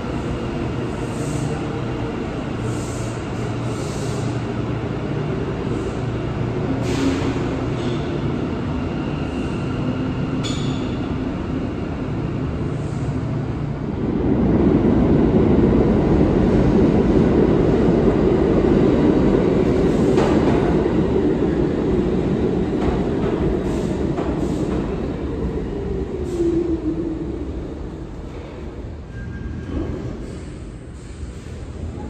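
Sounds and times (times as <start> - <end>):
subway train rumbling: 0.0 - 32.0.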